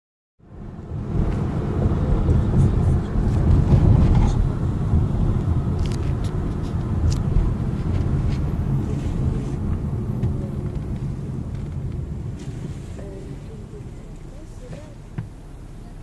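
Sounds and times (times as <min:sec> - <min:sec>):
car engine and road rumble: 0:00.4 - 0:16.0.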